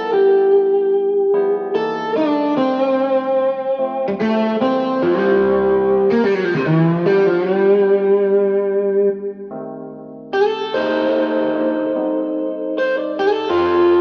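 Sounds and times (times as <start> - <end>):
electric guitar music: 0.0 - 14.0.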